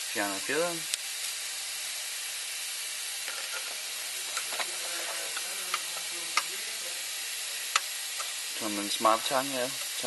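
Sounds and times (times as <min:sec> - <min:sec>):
compressed air hissing: 0:00.0 - 0:10.0.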